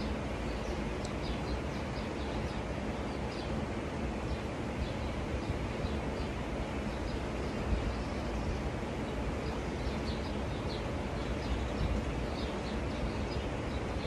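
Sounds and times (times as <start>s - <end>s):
low rumbling background noise: 0.0s - 14.0s
small birds chirping: 0.0s - 14.0s.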